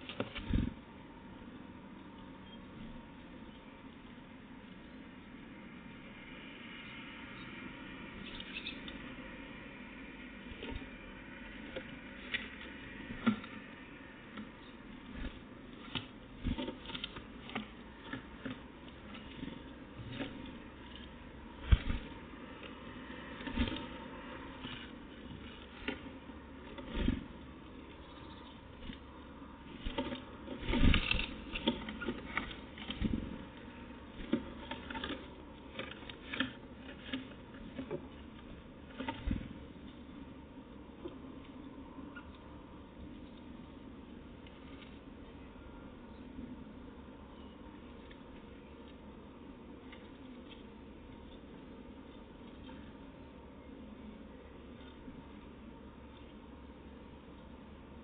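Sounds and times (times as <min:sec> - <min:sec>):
low steady hiss: 0:00.0 - 0:58.0.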